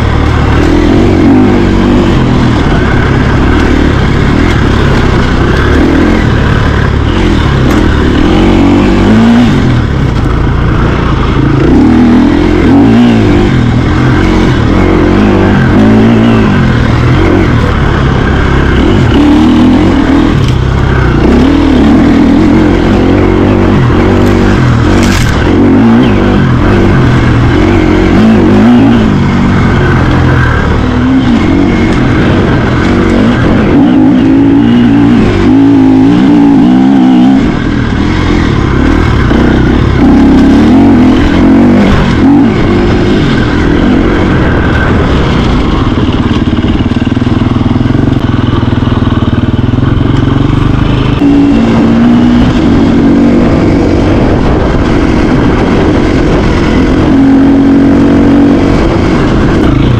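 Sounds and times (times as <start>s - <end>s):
mountain bike rumble: 0.0s - 59.9s.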